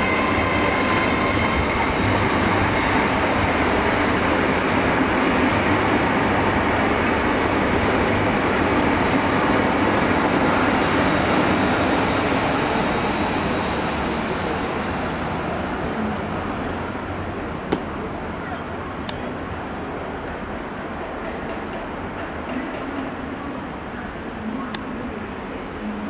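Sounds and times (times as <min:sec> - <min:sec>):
train wheels rumbling: 0:00.0 - 0:23.4.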